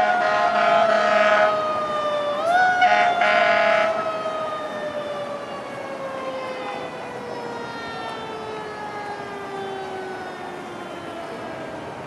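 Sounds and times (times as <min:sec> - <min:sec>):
fire truck siren wailing: 0:00.0 - 0:12.0.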